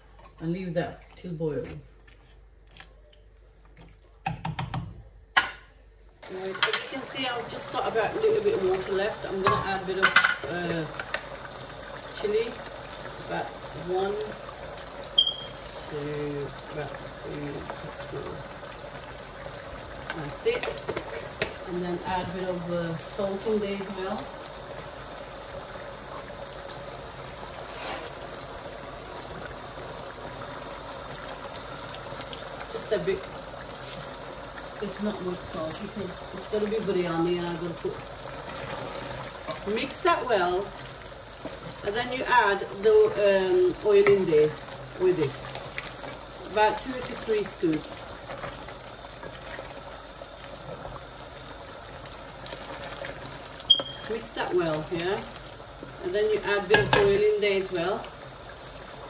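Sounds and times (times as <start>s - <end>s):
meat boiling in a pot: 0.0s - 59.0s.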